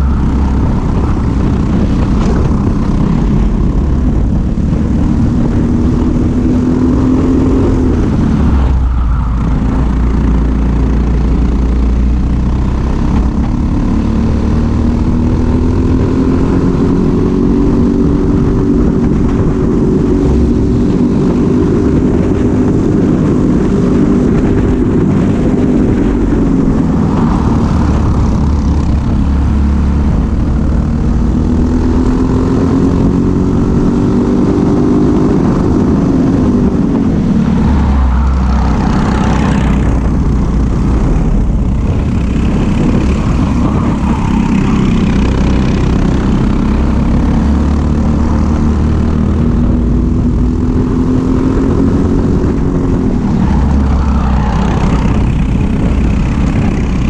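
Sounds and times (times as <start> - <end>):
steady low rumble: 0.0 - 14.0, 16.8 - 57.0
kart engine running hard: 0.0 - 57.0.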